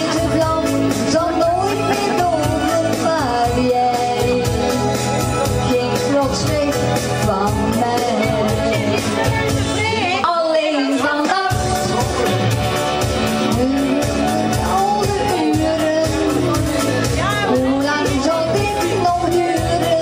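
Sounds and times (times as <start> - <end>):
pop backing track with beat: 0.0 - 20.0
woman singing into a microphone: 0.0 - 20.0.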